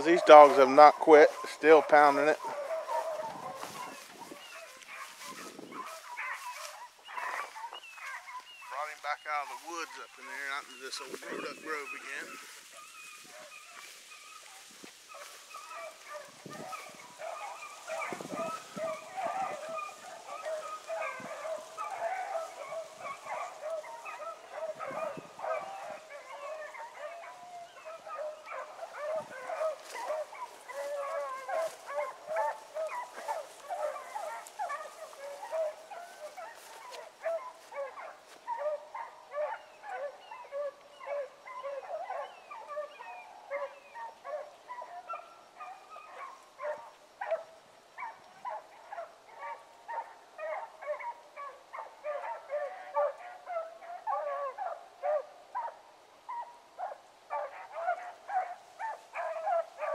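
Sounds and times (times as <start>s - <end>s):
pack of hounds baying: 0.0s - 59.9s.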